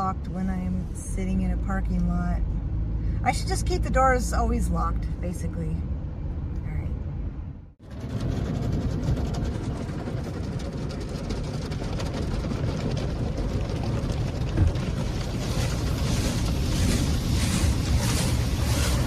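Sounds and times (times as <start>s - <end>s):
low vehicle rumble: 0.0s - 19.0s.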